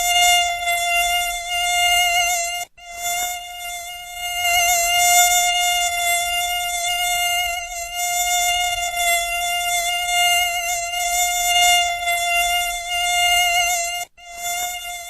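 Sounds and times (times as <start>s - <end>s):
mosquito wings whining: 0.0s - 15.0s.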